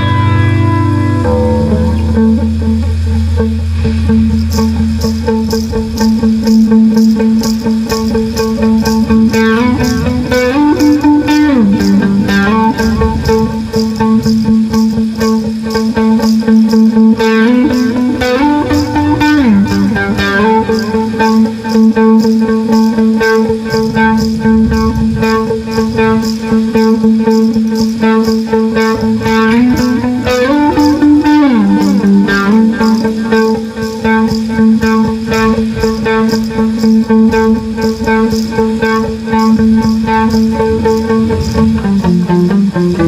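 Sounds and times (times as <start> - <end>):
electric guitar ambient music: 0.0 - 43.0.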